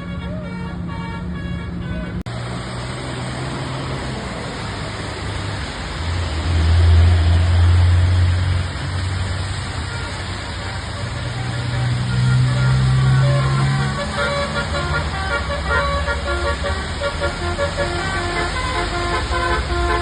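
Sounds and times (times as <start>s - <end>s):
bus engine drone: 0.0s - 20.0s
road noise: 0.0s - 20.0s.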